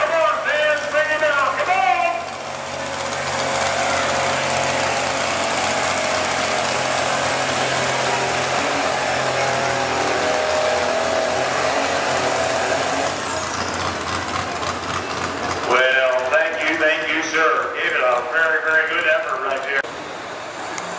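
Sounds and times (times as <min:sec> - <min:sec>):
diesel pickup engine straining: 0:00.0 - 0:20.9.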